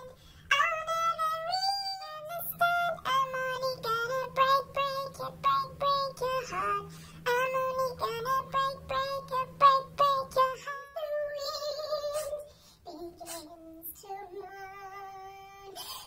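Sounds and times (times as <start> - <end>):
high-pitched cartoon singing voice: 0.0 - 16.0.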